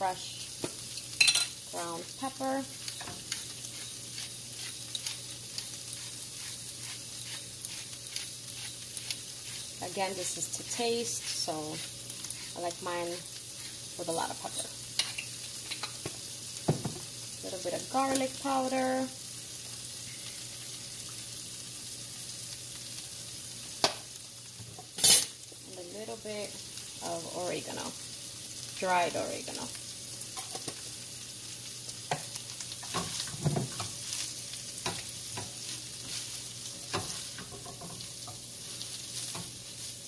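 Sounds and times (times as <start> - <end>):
meat sizzling in a skillet: 0.0 - 40.0.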